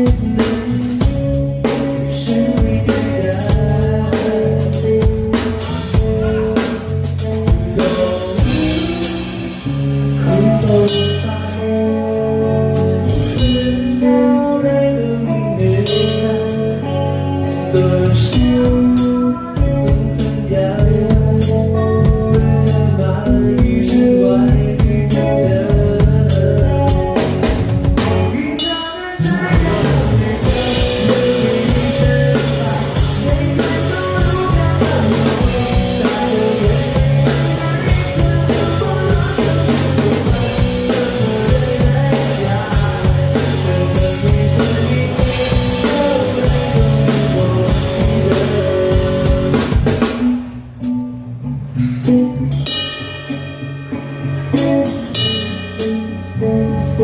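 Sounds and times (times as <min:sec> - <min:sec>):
drum kit playing: 0:00.0 - 0:57.0
rock song with singing: 0:00.0 - 0:57.0.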